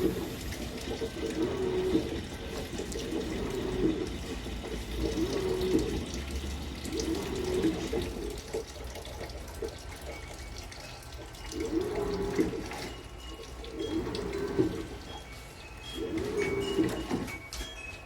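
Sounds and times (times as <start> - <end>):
water splashing in washing machine: 0.0 - 18.0.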